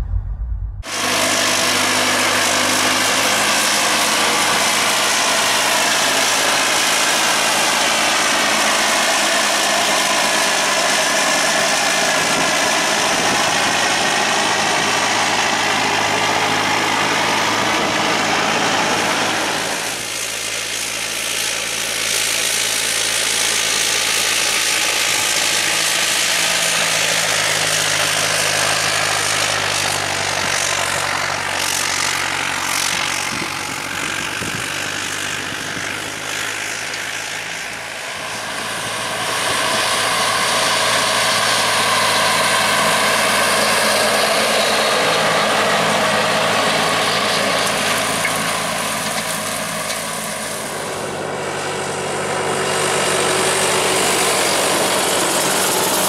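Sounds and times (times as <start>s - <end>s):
tractor diesel engine under load: 0.0s - 56.0s
tractor engine: 0.0s - 56.0s.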